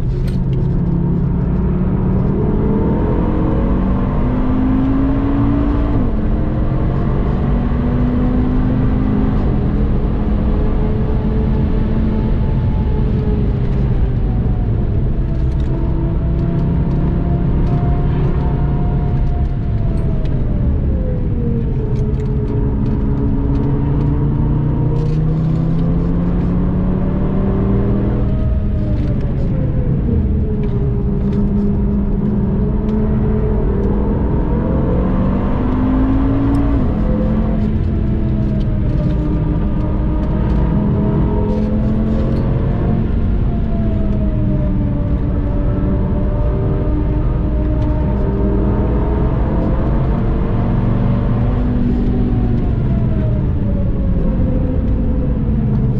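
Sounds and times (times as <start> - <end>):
car engine from inside cabin: 0.0 - 55.9
road and tyre noise: 0.0 - 55.9.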